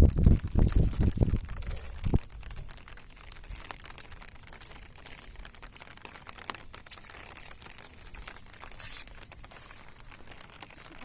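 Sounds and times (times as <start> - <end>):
rustling and crackling: 0.0 - 11.0.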